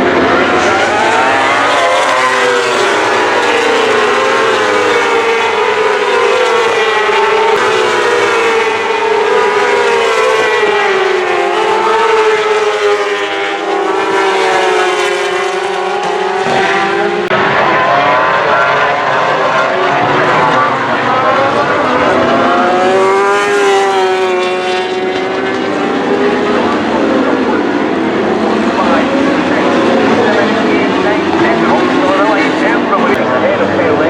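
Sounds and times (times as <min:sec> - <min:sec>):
racing motorcycle engines revving: 0:00.0 - 0:34.0.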